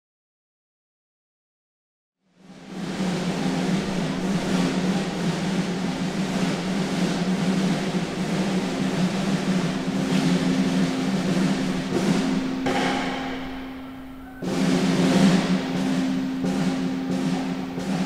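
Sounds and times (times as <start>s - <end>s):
loud drum strokes: 2.3s - 18.0s
low drum roll: 2.3s - 18.0s.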